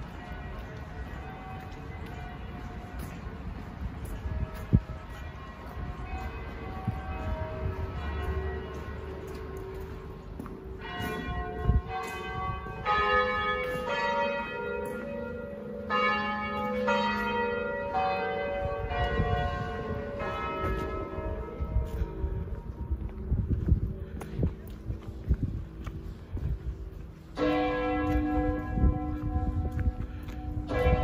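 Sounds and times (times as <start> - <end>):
large bells ringing: 0.0 - 31.0
low city rumble: 0.0 - 31.0.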